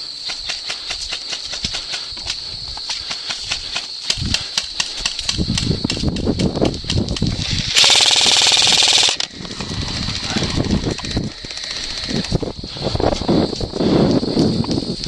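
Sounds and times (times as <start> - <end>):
crickets chirring: 0.0 - 15.0
sharp clicks: 0.3 - 12.5.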